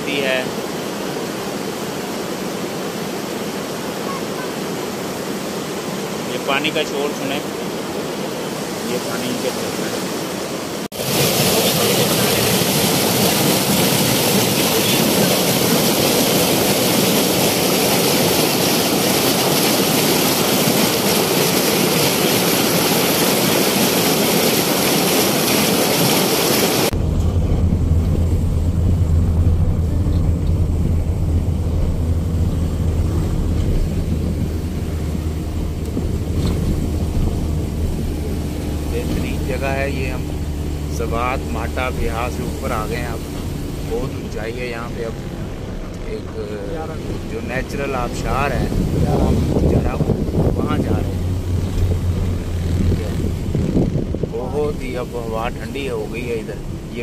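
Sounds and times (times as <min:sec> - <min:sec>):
rapids rushing over boulders: 0:00.0 - 0:57.0
vehicle engine hum: 0:10.8 - 0:57.0.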